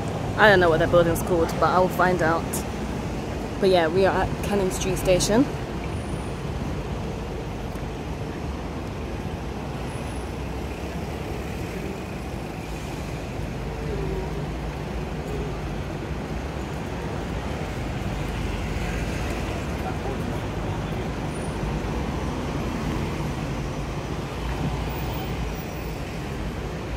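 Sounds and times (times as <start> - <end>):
buses and cars passing: 0.0 - 26.9.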